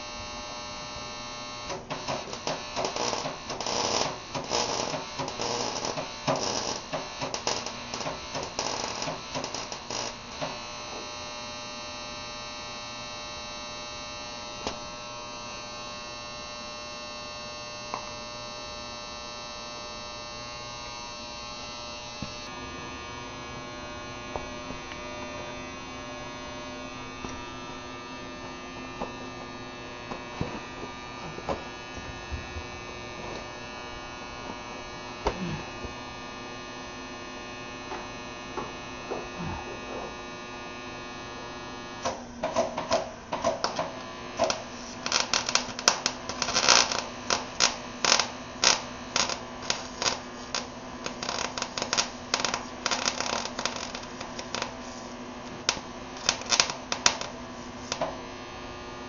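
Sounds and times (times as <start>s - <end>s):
steady electrical hum: 0.0s - 59.0s.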